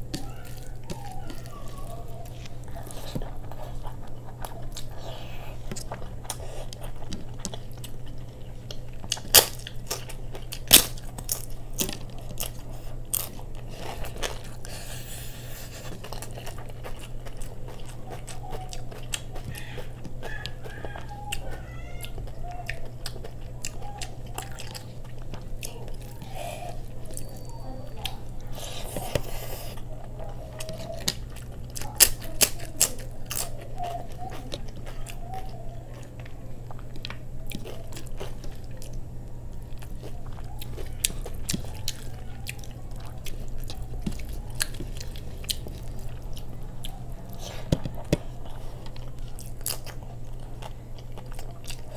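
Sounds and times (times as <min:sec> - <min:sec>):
chewing and lip smacks: 0:00.0 - 0:51.9
crunching of fried papad: 0:00.0 - 0:51.9
steady low hum: 0:00.0 - 0:51.9.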